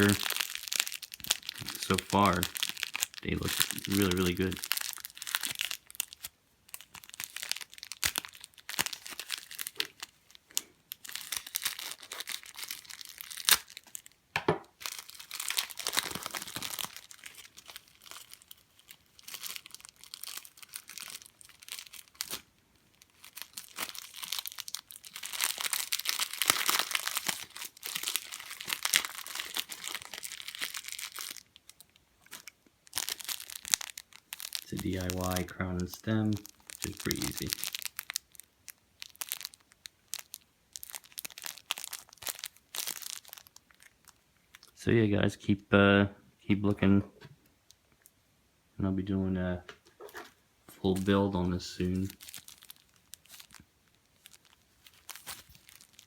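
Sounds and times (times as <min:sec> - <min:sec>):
plastic bags crinkling: 0:00.0 - 0:14.2, 0:14.8 - 0:44.7, 0:49.9 - 0:56.0.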